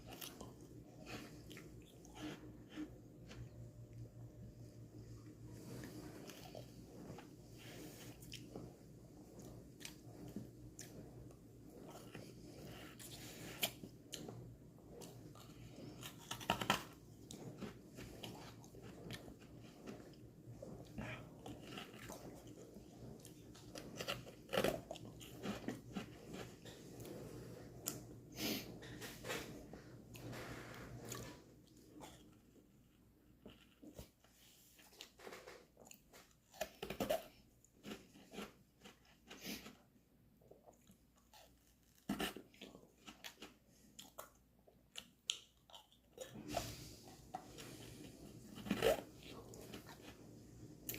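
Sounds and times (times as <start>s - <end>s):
chewing: 0.0s - 4.1s, 5.6s - 28.1s, 35.8s - 50.9s.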